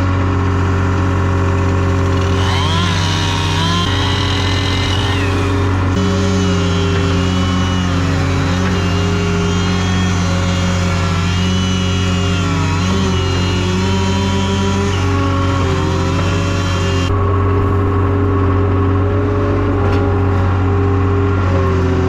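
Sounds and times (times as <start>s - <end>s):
hydraulic whine: 0.0s - 22.0s
skid steer engine running: 0.0s - 22.0s.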